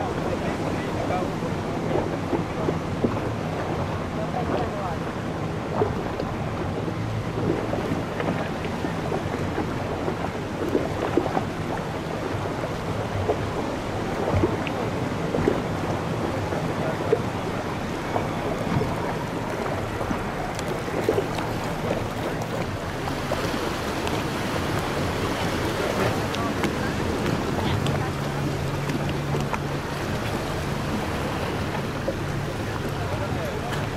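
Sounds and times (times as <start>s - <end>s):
boat engine running: 0.0s - 33.9s
water splashing against hull: 0.0s - 33.9s
wind on microphone: 0.0s - 33.9s.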